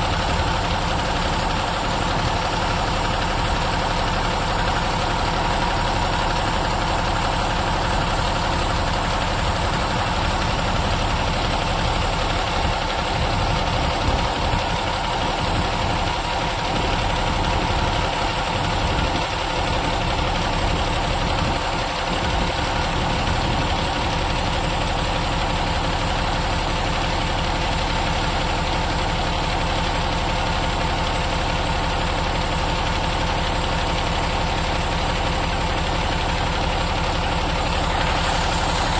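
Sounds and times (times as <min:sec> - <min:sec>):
diesel truck idling: 0:00.0 - 0:38.9.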